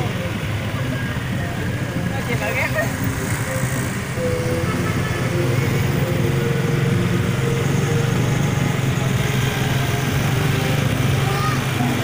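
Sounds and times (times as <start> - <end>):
motorcycle engines cruising: 0.0 - 12.0
road noise: 0.0 - 12.0.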